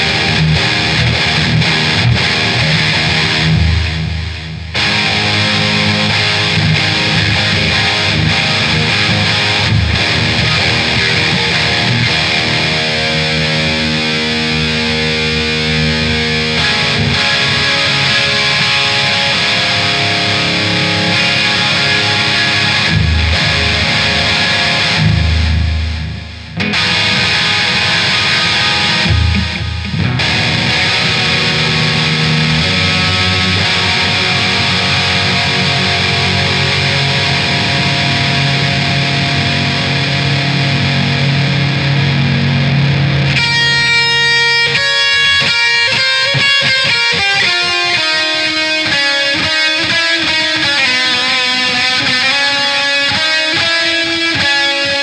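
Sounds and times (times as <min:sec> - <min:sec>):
instrumental heavy metal: 0:00.0 - 0:55.0
picked guitar notes: 0:00.0 - 0:55.0.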